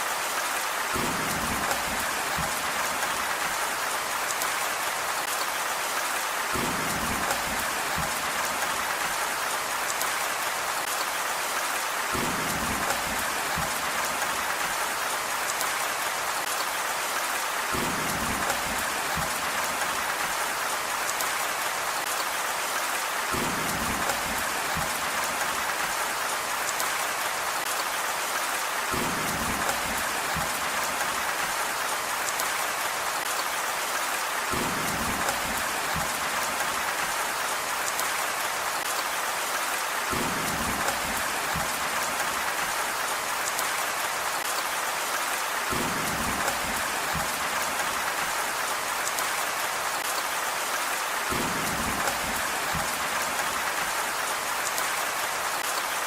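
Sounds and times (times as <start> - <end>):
heavy rain hiss: 0.1 - 56.0.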